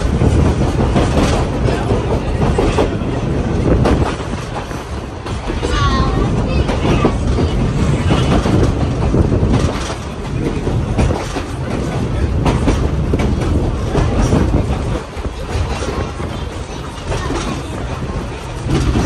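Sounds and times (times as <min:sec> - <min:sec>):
train rumble: 0:00.0 - 0:19.0
train wheels clicking over joints: 0:00.0 - 0:19.0.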